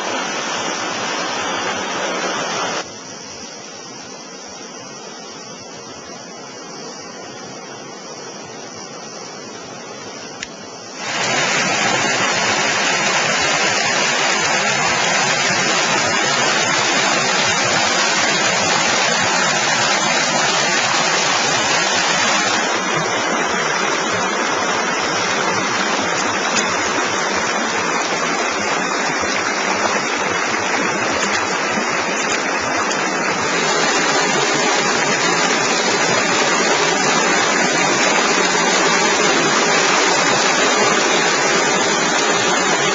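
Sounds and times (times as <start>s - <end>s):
rushing water: 0.0s - 4.1s, 4.9s - 42.9s.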